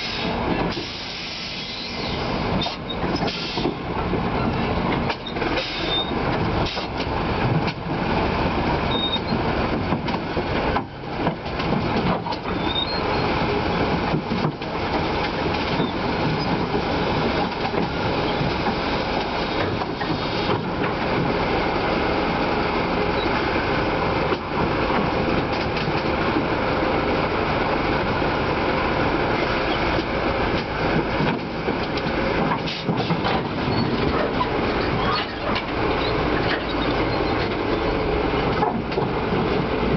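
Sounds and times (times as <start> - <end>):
heavy machinery rumble and clatter: 0.0 - 39.9.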